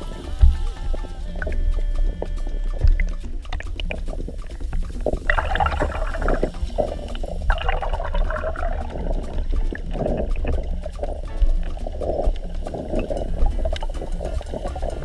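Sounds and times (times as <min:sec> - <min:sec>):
underwater low rumble: 0:00.0 - 0:15.0
water bubbling and sloshing: 0:00.0 - 0:15.0.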